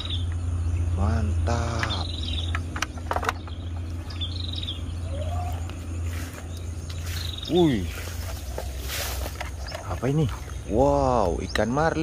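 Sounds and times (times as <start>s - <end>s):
high trilling chirp: 0.0s - 11.8s.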